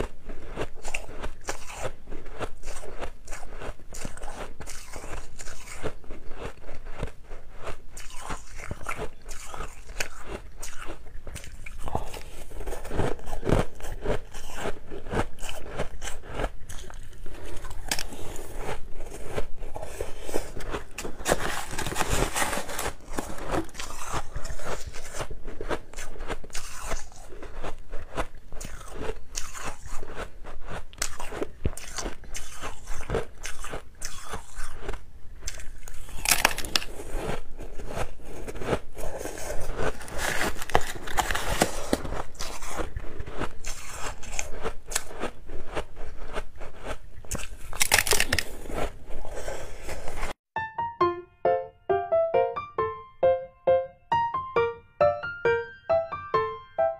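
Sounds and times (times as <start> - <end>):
ice crunching while chewed: 0.0 - 50.4.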